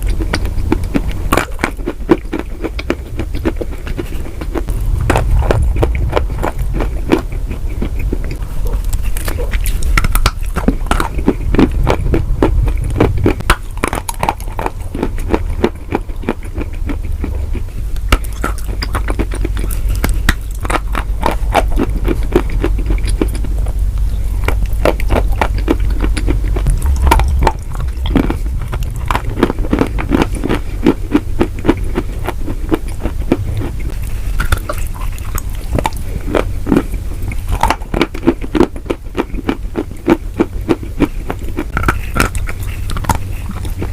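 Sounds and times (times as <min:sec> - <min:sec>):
chewing crunchy food: 0:00.0 - 0:43.9
steady low hum: 0:00.0 - 0:43.9.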